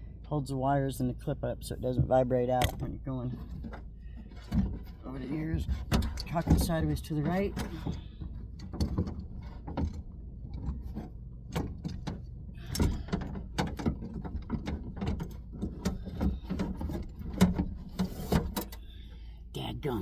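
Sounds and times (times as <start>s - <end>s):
metal and plastic parts rattling: 2.5s - 19.2s.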